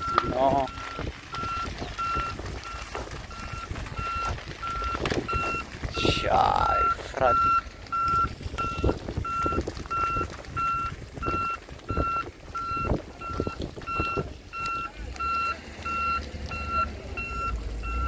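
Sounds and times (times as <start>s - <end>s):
burning grass crackling: 0.0s - 18.0s
reversing alarm beeping: 0.0s - 18.0s.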